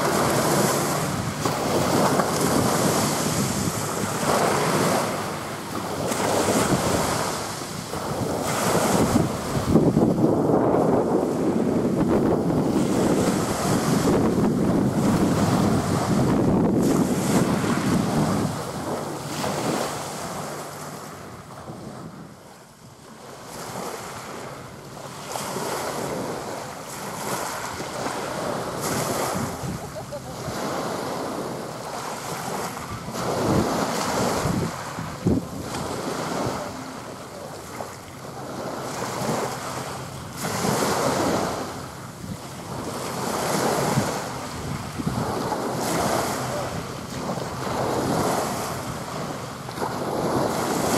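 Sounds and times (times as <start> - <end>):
waves washing onto shore: 0.0 - 50.9
wind buffeting microphone: 0.0 - 50.9.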